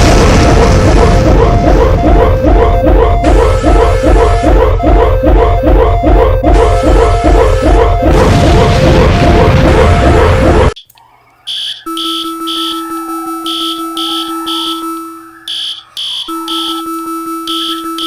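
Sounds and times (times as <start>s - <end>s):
harsh pulsing alarm: 0.0s - 10.8s, 11.4s - 18.0s
two-tone alarm drone: 0.0s - 10.8s, 11.4s - 18.0s
rapid high beeps: 0.1s - 8.2s, 11.5s - 18.0s.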